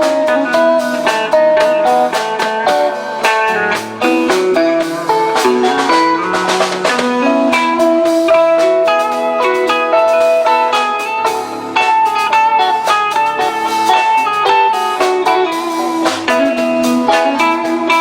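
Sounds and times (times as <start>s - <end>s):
lead guitar: 0.0s - 18.0s
live rock band playing: 0.0s - 18.0s.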